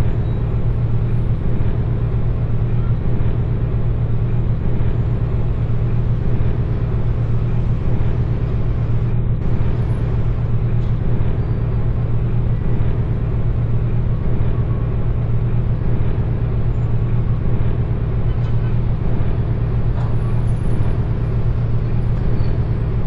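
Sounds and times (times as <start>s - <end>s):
low mechanical drone: 0.0s - 23.0s.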